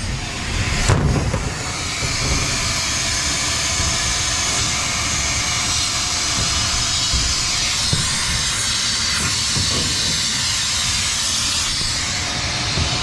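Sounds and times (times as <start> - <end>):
air blower rushing hiss: 0.0 - 13.0.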